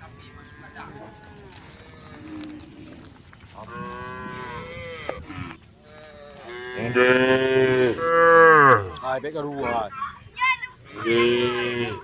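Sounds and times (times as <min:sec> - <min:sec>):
cows mooing: 0:00.0 - 0:09.4, 0:10.9 - 0:12.0.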